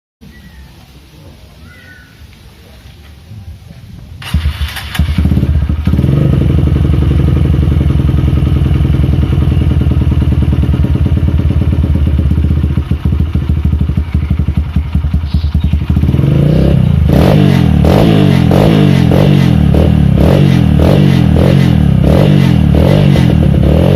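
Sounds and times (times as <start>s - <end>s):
motorcycle engine idling and revving: 3.8s - 23.9s.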